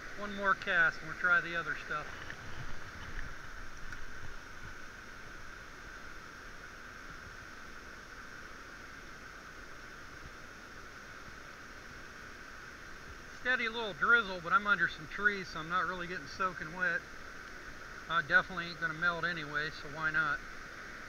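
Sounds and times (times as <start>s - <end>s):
river water rushing over falls: 0.0s - 21.0s.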